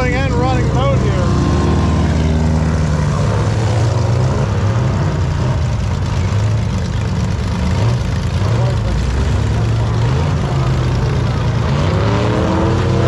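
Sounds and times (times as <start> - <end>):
airboat engine and propeller: 0.0 - 11.7.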